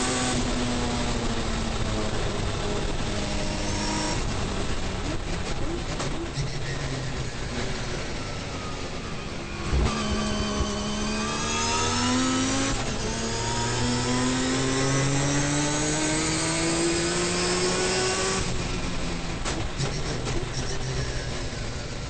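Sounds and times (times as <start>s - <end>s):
rotary engine under full throttle: 0.0s - 22.0s.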